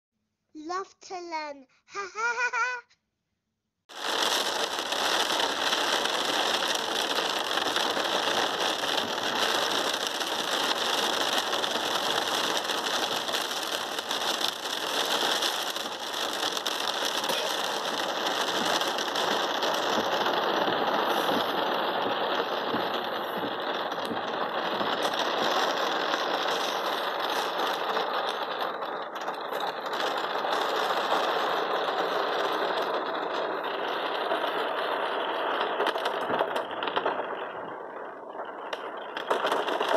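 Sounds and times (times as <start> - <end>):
heavy rain on car roof: 3.9 - 37.8, 38.5 - 39.9.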